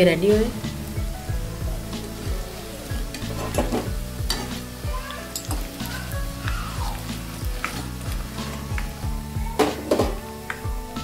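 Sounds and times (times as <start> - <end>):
hot oil sizzling: 0.0 - 11.0
background music with low beat: 0.1 - 11.0.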